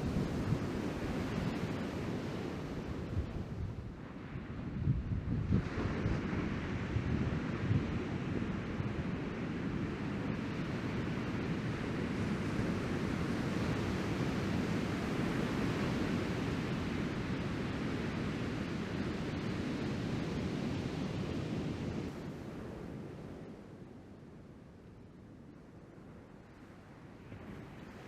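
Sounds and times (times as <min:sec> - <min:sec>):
wind buffeting microphone: 0:00.0 - 0:23.7.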